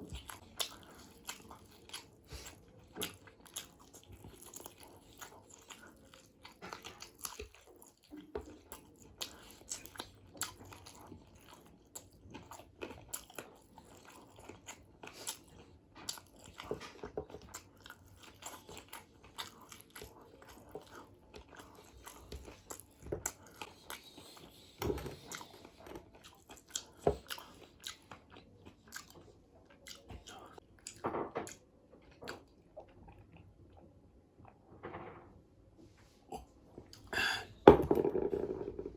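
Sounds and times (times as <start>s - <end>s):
person chewing food: 0.0s - 34.6s, 36.2s - 37.9s.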